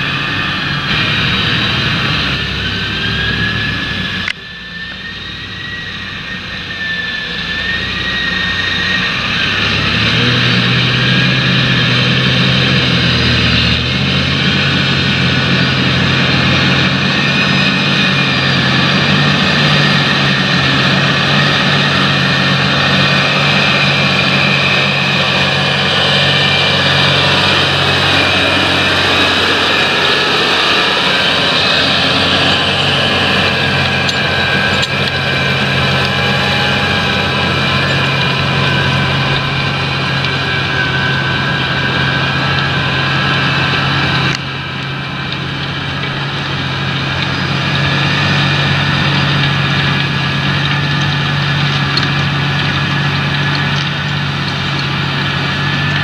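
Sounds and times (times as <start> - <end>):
high whine: 0.0 - 56.0
tractor engine drone: 0.0 - 56.0.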